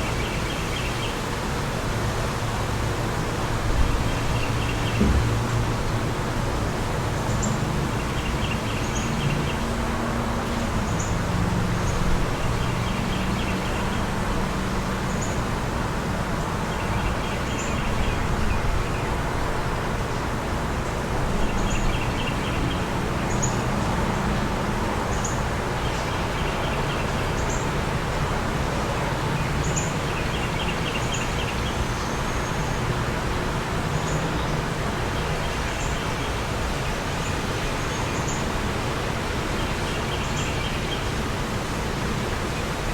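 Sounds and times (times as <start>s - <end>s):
distant traffic hum: 0.0s - 42.9s
wind: 0.0s - 42.9s.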